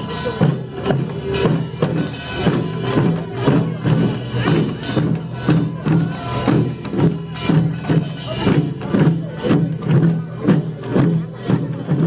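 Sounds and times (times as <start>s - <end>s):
drums beating: 0.0s - 12.0s
small hand gongs beating: 0.0s - 12.0s.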